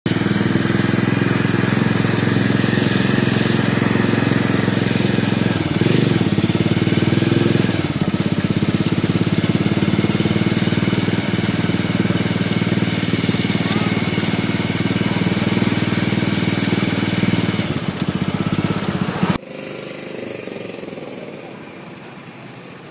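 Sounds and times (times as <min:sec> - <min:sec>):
motorcycle engine running: 0:00.0 - 0:22.9.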